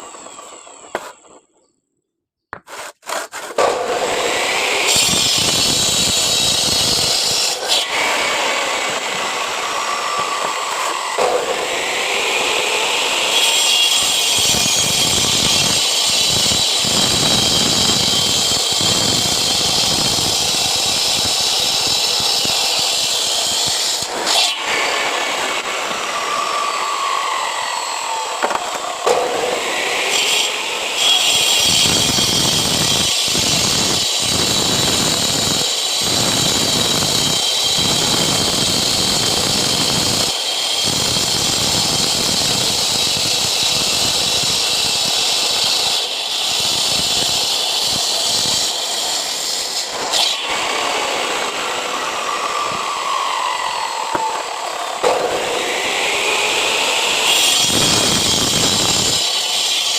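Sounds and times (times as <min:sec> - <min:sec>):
angle grinder cutting concrete: 0:02.6 - 0:59.9.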